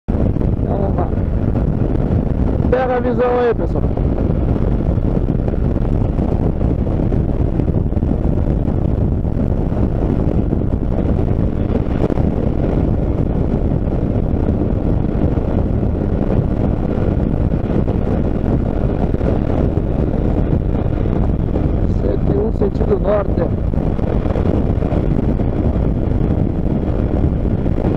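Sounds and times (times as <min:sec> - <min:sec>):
motorcycle engine cruising: 0:00.1 - 0:27.9
wind rushing over microphone: 0:00.1 - 0:27.9.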